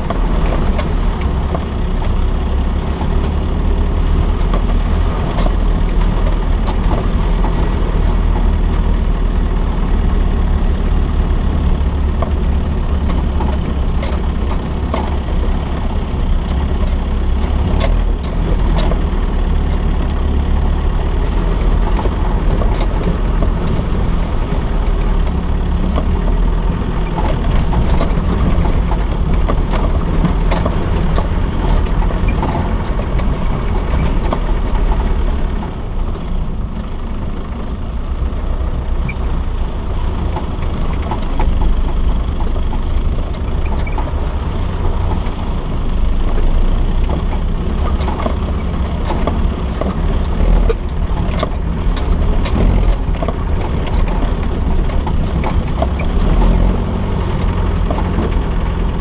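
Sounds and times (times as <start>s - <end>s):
engine drone: 0.0s - 59.0s
vehicle rattles and knocks: 0.0s - 59.0s.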